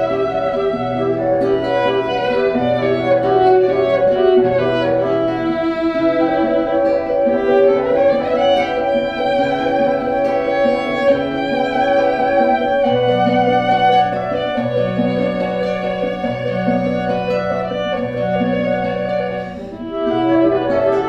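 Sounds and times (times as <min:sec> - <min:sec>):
violin bowed notes: 0:00.0 - 0:21.0.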